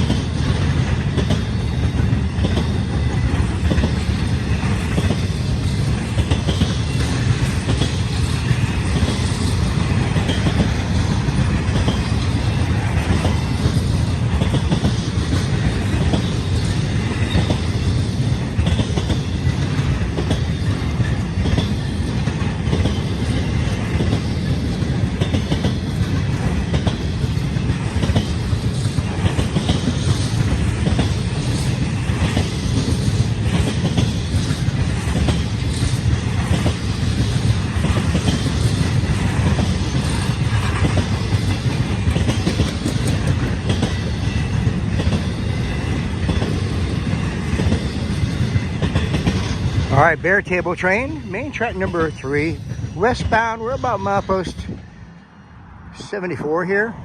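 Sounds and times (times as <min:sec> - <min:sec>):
wheels clicking over rail joints: 0:00.0 - 0:54.2
freight train rumbling past: 0:00.0 - 0:57.0.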